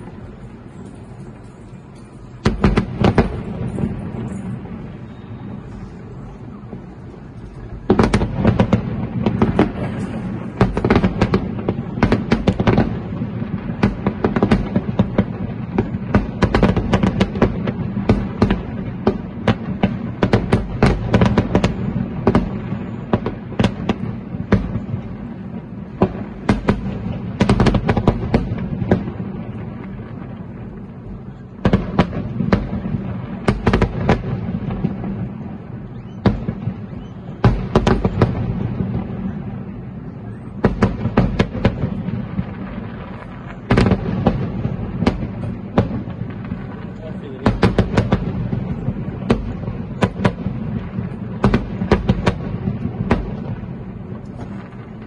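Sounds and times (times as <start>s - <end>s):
fireworks bangs and pops: 0.0s - 55.0s.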